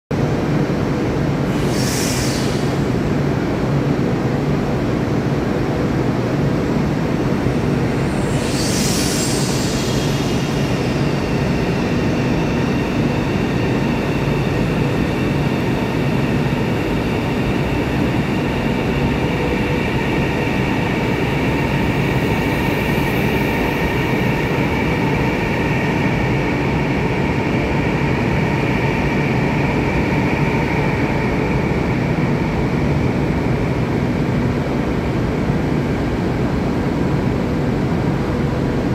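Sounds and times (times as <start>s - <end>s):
electric train rumbling with whine: 0.2s - 38.9s.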